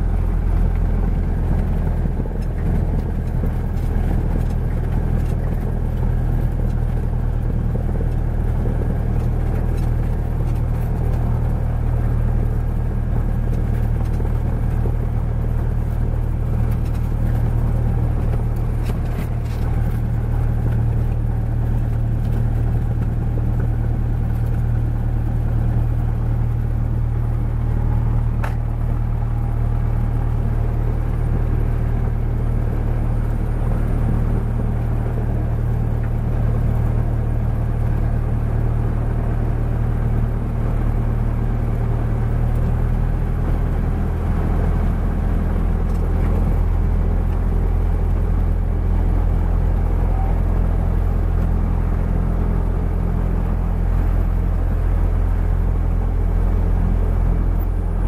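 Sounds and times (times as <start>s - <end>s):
airplane engine and propeller drone: 0.0s - 58.0s.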